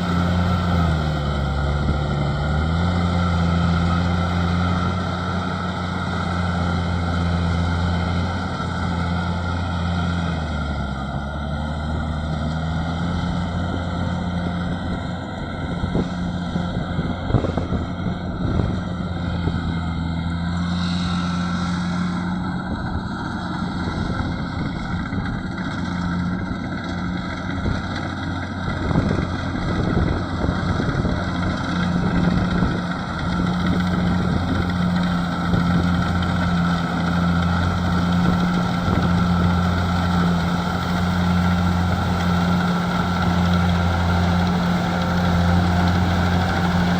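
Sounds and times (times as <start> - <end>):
combine harvester engine humming: 0.0 - 46.9.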